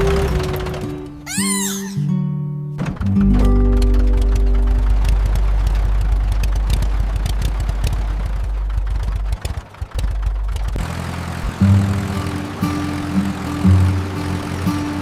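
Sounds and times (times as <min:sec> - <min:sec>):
tractor engine rumbling: 0:00.0 - 0:02.1, 0:02.8 - 0:15.0.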